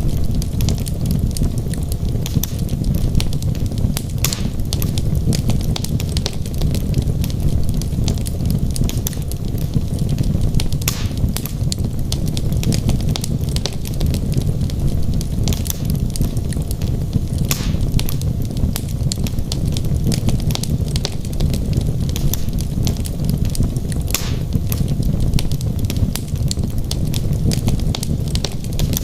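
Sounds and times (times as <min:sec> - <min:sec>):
fire crackling: 0:00.0 - 0:29.0
low roar of flames: 0:00.0 - 0:29.0
wood fire pops: 0:00.0 - 0:29.0.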